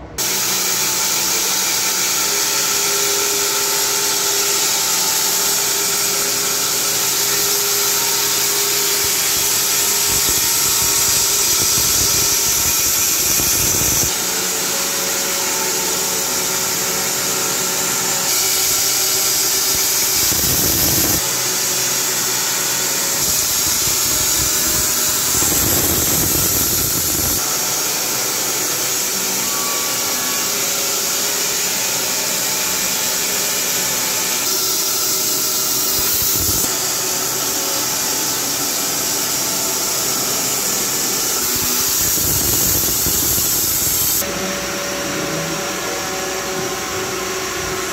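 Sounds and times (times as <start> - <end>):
bandsaw cutting timber: 0.2 - 47.5.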